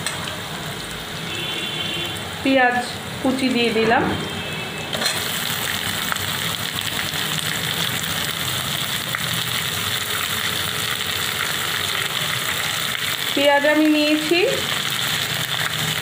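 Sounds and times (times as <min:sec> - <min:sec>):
onions sizzling in hot oil: 0:00.0 - 0:03.9, 0:04.8 - 0:16.0.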